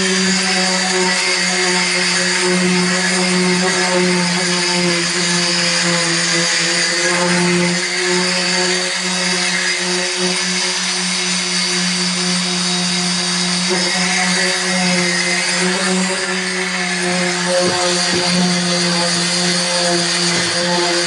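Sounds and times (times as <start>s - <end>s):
electric sander sanding: 0.0s - 21.0s.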